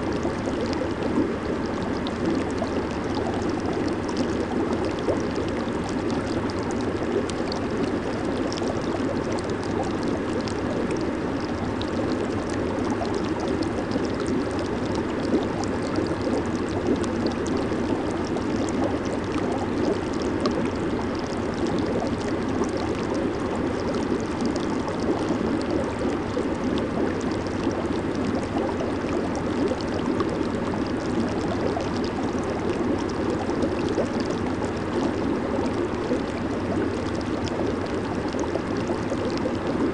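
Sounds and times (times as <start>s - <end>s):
crackle of bubbles: 0.0s - 39.9s
jacuzzi water churning: 0.0s - 39.9s.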